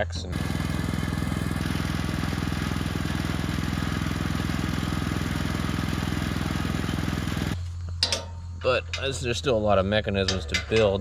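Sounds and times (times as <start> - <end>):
gasoline engine running: 0.2 - 11.0.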